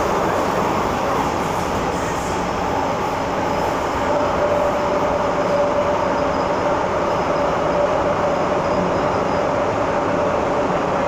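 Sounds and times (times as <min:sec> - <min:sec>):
steady train whine: 0:00.0 - 0:11.0
train wheels rumbling on rails: 0:00.0 - 0:11.0.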